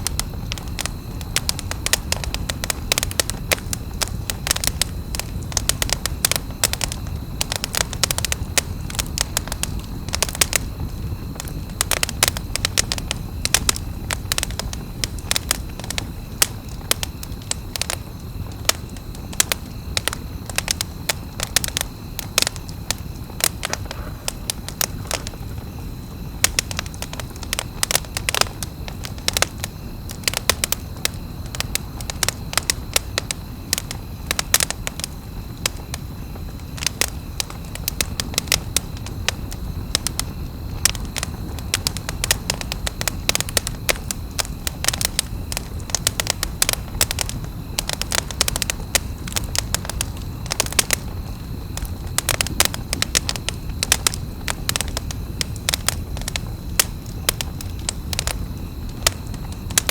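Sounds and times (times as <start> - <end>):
campfire crackling: 0.0 - 59.9
low rush of flame: 0.0 - 59.9.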